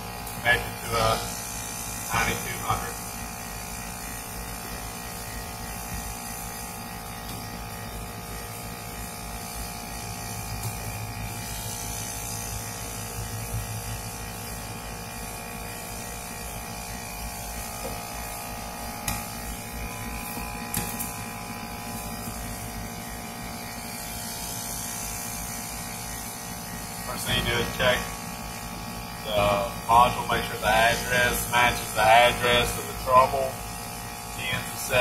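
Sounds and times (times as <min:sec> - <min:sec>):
air conditioning unit humming: 0:00.0 - 0:35.0.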